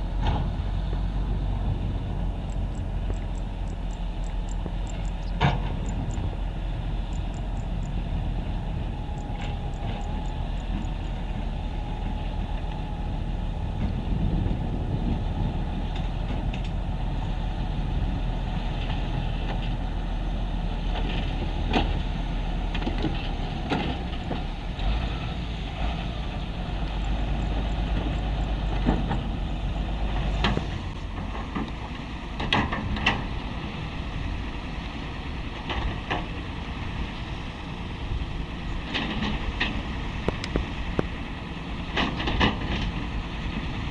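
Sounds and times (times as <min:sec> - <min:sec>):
diesel construction machinery running: 0:00.0 - 0:43.9.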